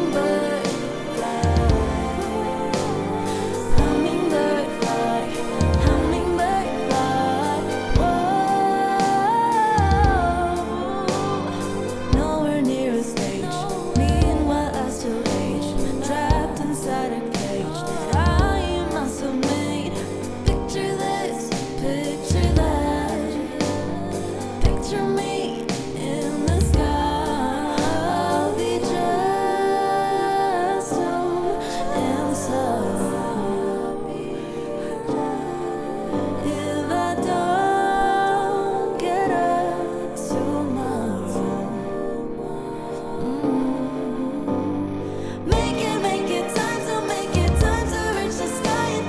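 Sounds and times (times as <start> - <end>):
person singing: 0.0 - 49.0
pop song with sung vocal: 0.0 - 49.0.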